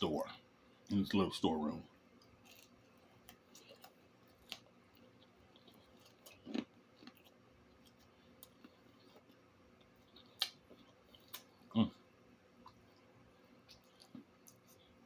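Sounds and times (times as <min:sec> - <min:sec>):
person chewing: 0:02.2 - 0:11.8, 0:12.6 - 0:15.0.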